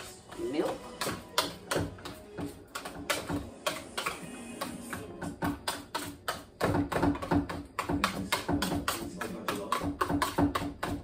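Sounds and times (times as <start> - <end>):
background music: 0.0 - 9.8
spoon knocking against pot: 1.0 - 11.0.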